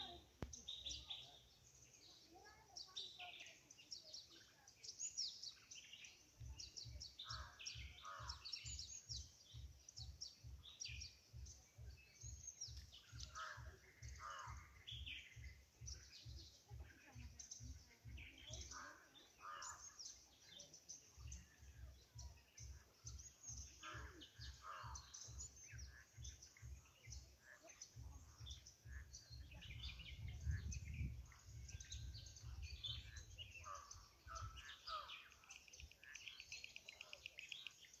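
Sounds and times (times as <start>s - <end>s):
small birds chirping: 0.0s - 38.0s
bird trill: 5.0s - 16.6s, 17.3s - 38.0s.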